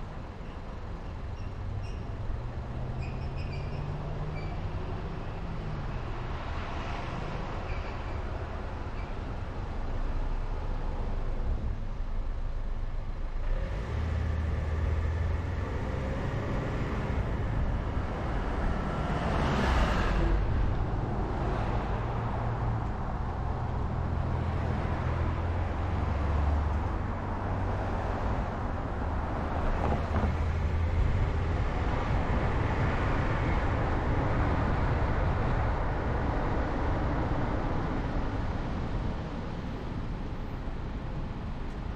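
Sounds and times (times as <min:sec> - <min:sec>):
car tyre and engine rumble: 0:00.0 - 0:41.9.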